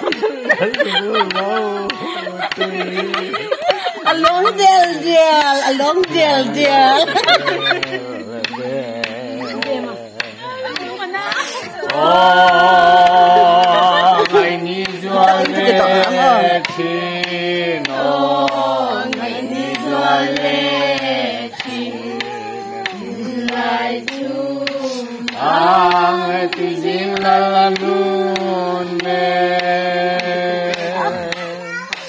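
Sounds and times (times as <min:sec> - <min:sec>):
person singing slow melody: 0:00.0 - 0:32.0.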